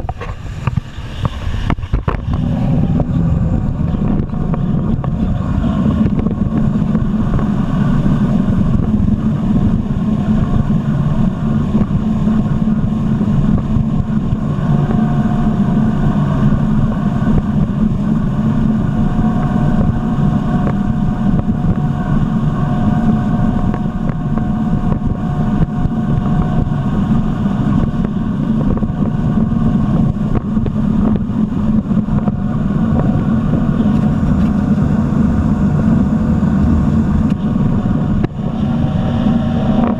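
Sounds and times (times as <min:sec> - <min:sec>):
jet ski engine running: 0:00.0 - 0:39.9
wind on microphone: 0:00.0 - 0:39.9.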